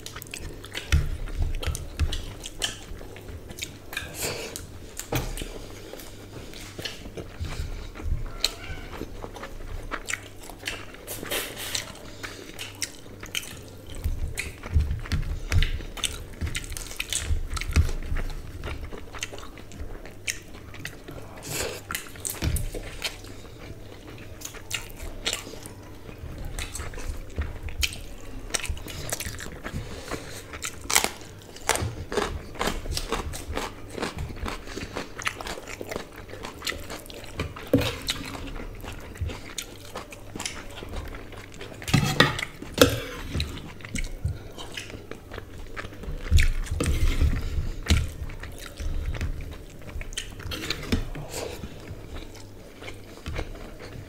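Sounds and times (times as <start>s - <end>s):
people chewing food: 0.0s - 54.0s.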